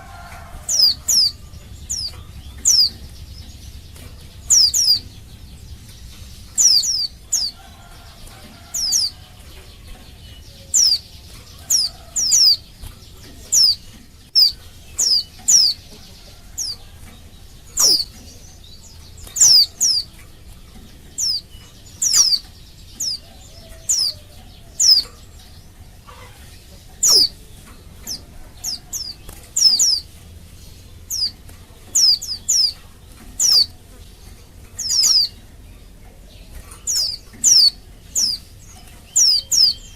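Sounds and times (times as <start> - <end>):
bird high downward calls: 0.0 - 30.2, 30.8 - 39.9.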